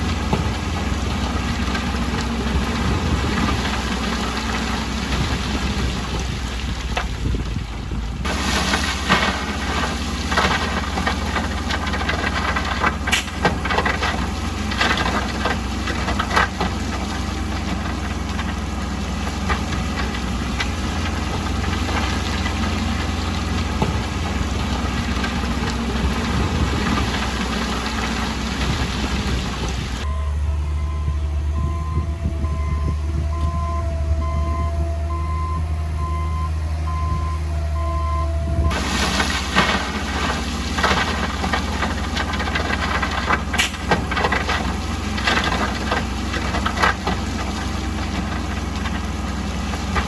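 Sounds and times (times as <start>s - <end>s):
heavy machinery engine rumble: 0.0s - 50.0s.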